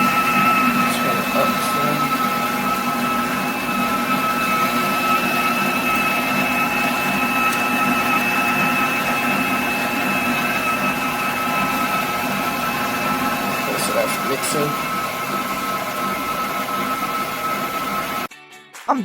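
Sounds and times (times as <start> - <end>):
stand mixer motor whine: 0.0 - 18.3.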